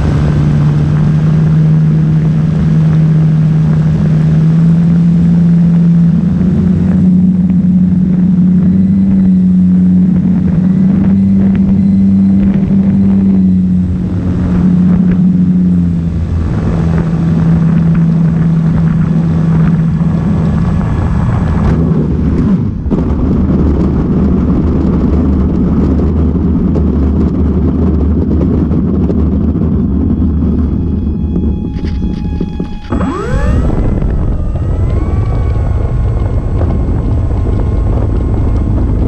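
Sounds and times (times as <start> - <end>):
model plane motor drone: 0.0 - 21.7, 27.9 - 39.0
wheels rumbling on asphalt: 0.0 - 39.0.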